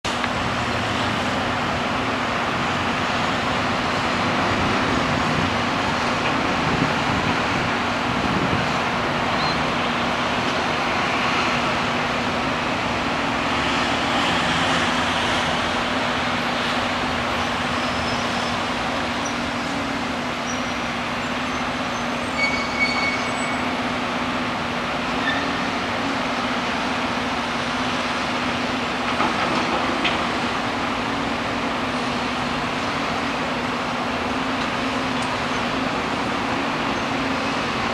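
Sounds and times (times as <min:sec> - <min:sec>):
city traffic din: 0:00.0 - 0:37.9.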